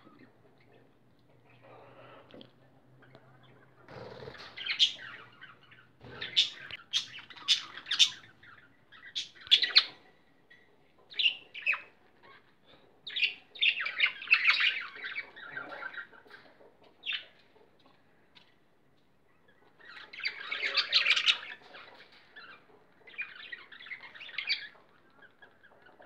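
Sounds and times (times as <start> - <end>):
budgerigars chirping and squawking: 3.0 - 18.5, 19.3 - 26.0.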